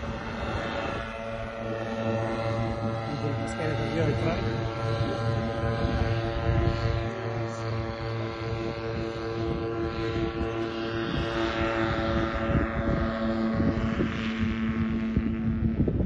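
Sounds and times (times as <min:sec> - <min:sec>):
paramotor engine droning: 0:00.0 - 0:16.0.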